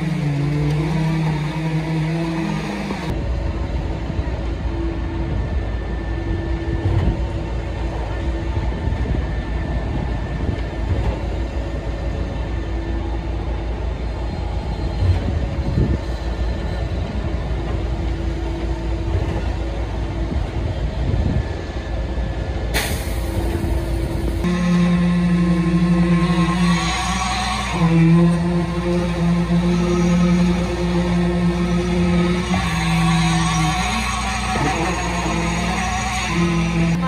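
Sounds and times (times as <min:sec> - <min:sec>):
diesel truck engine rumbling: 0:00.0 - 0:37.0.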